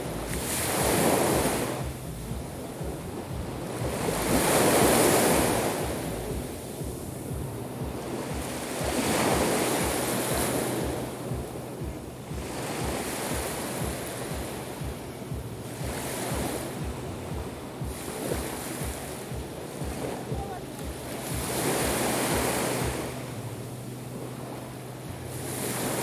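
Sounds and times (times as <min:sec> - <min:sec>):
waves breaking on shore: 0:00.0 - 0:26.0
wind buffeting microphone: 0:00.0 - 0:26.0.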